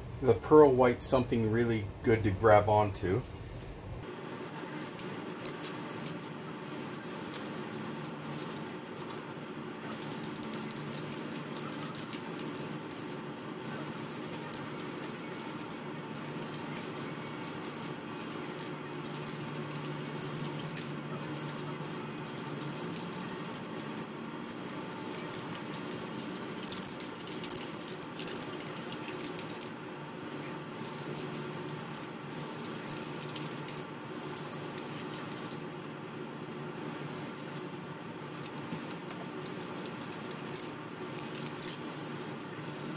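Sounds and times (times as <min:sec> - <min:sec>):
constant low hum: 0:00.0 - 0:42.9
paint spray hiss: 0:04.3 - 0:35.6, 0:36.8 - 0:42.9.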